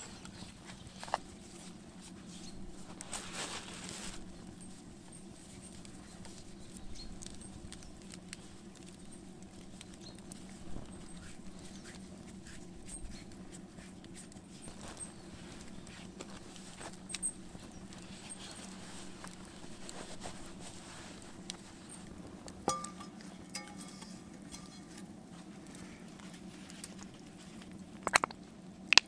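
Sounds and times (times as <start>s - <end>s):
plastic bag rustling: 0.0s - 28.0s.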